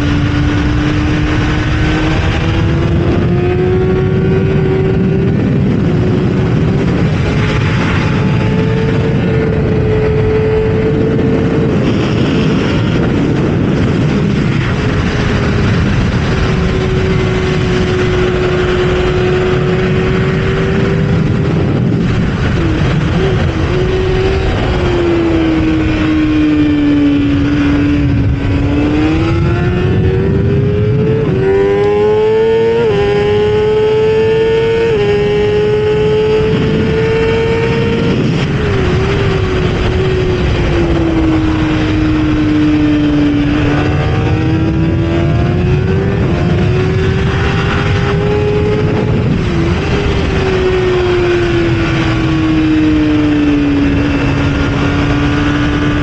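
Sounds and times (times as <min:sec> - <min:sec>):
motorcycle engine at high revs: 0:00.0 - 0:56.0
wind rush on microphone: 0:00.0 - 0:56.0.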